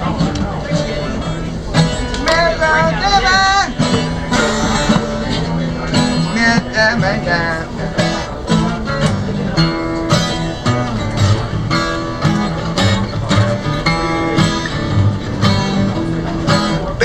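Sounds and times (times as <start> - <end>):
blues guitar playing: 0.0 - 17.0.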